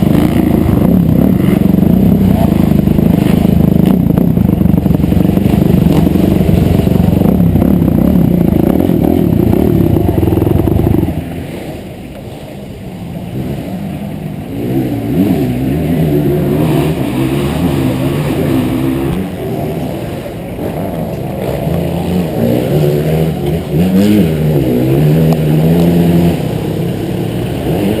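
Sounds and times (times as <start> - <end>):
motocross bike engine revving: 0.0 - 11.8, 13.1 - 28.0.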